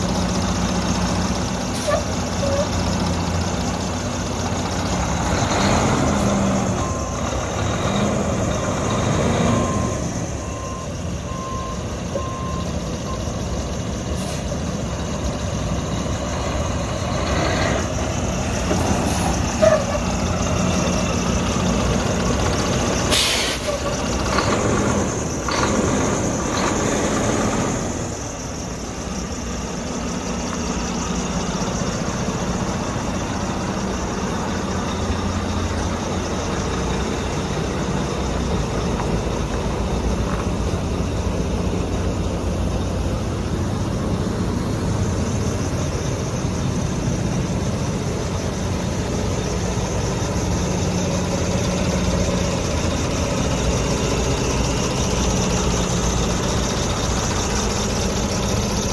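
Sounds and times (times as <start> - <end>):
diesel truck engine idling: 0.0 - 58.9.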